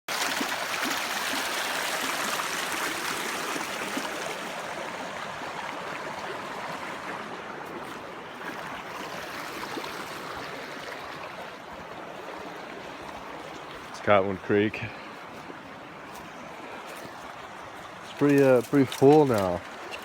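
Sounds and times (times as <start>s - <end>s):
creek water burbling: 0.1s - 20.0s.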